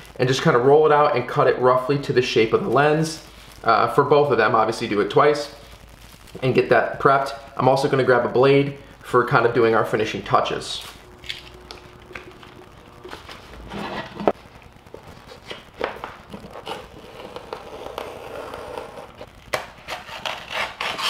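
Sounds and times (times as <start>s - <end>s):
plastic film rustling and crinkling: 2.2s - 21.0s.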